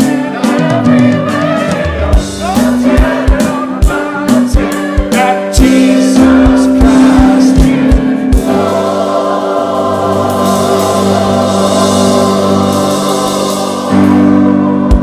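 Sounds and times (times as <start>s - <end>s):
choir singing with instruments: 0.0s - 15.0s
low percussion beats: 0.0s - 15.0s.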